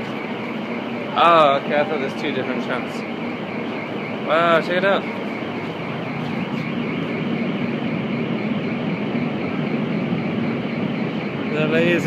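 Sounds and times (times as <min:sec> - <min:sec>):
faint wavering whine: 0:00.0 - 0:12.0
tram running hum and rush: 0:00.0 - 0:12.0.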